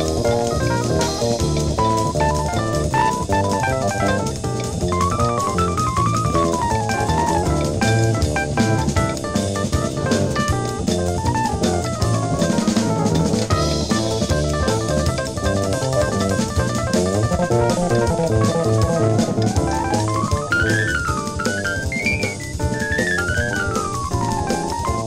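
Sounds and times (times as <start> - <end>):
busy drum kit: 0.0 - 25.0
jazz fusion music from vinyl: 0.0 - 25.0.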